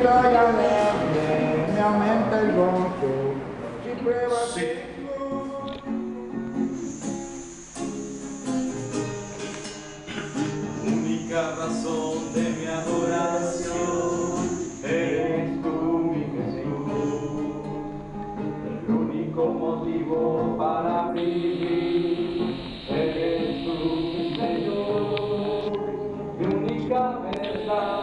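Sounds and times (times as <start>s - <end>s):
group singing church song: 0.0s - 28.0s
strummed acoustic guitar: 0.0s - 28.0s.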